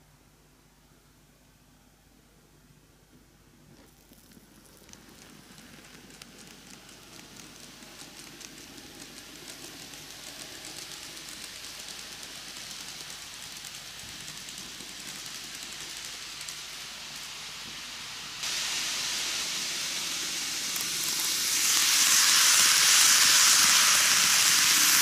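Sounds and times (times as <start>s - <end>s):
model train wheels clicking: 3.7s - 25.0s.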